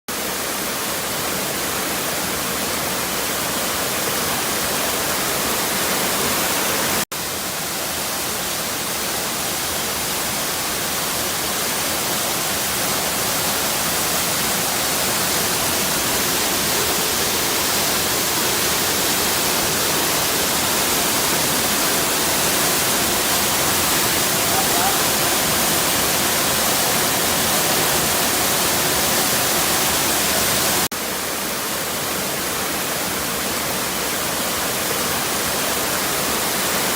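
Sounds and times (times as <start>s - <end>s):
waterfall rushing: 0.1s - 36.9s.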